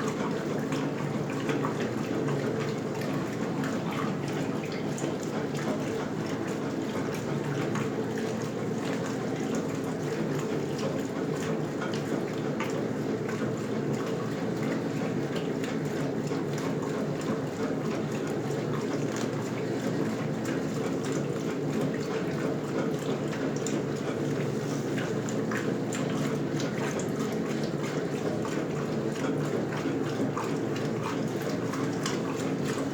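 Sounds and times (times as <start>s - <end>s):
washing machine water rushing: 0.0s - 32.9s.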